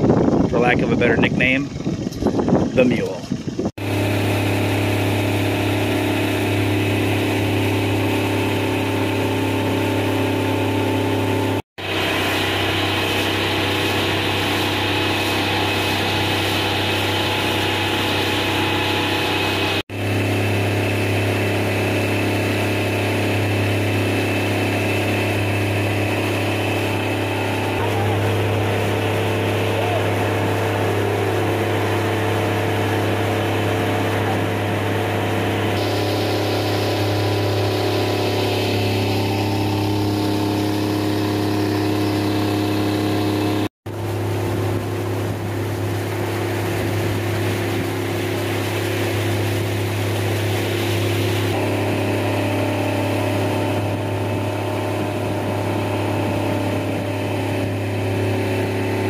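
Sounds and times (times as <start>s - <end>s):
outboard motor running: 0.0s - 59.0s
water rushing along hull: 0.0s - 59.0s.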